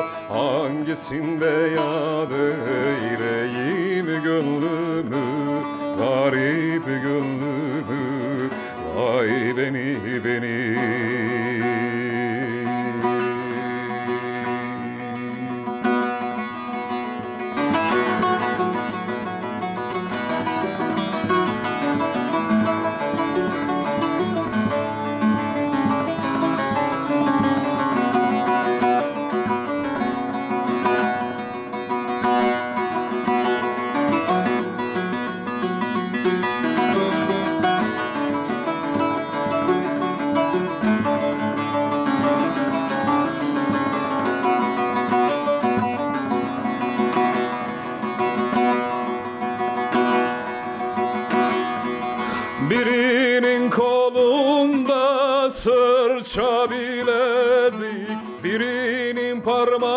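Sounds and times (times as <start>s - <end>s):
plucked long-necked lute melody: 0.0s - 59.9s.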